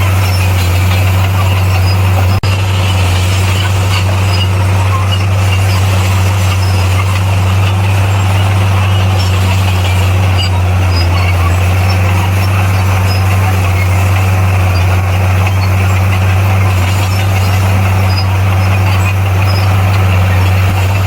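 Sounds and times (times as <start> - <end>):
bulldozer diesel engine drone: 0.0 - 21.0.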